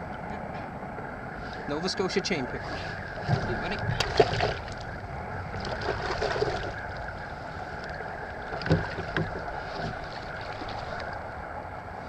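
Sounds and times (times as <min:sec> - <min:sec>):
water noise: 0:00.0 - 0:12.0
wind: 0:00.0 - 0:12.0.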